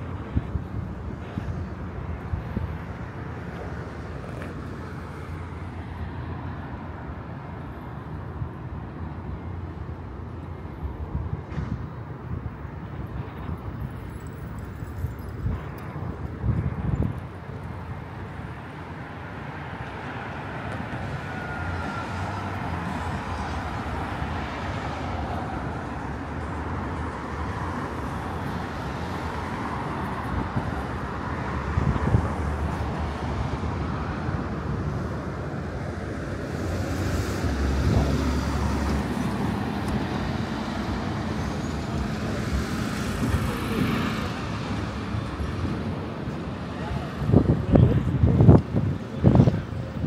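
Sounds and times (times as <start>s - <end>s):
passing cars: 0.0s - 50.0s.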